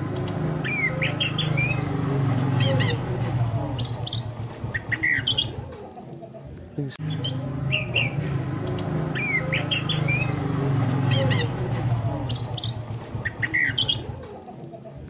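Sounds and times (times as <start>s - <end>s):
thrush song whistled notes: 0.0s - 5.6s, 7.0s - 14.1s.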